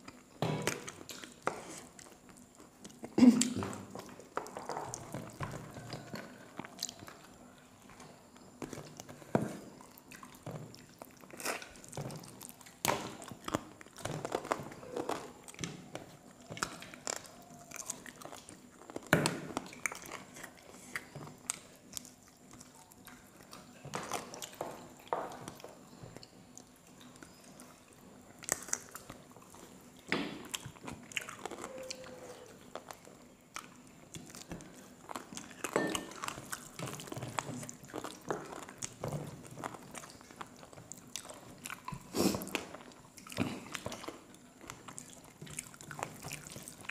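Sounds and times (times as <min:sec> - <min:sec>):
chewing and wet mouth smacks: 0:00.0 - 0:46.9.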